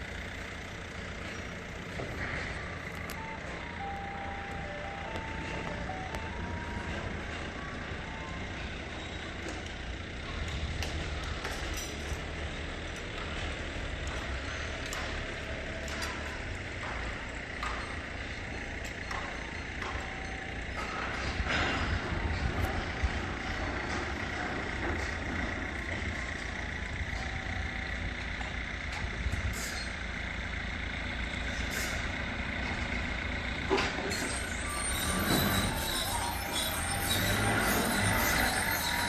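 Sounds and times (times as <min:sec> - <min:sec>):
truck engine rumbling: 0:00.0 - 0:39.0.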